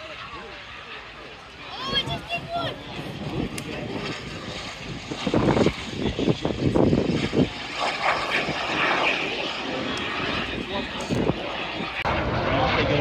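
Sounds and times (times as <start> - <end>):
airplane engine passing: 0.0 - 13.0.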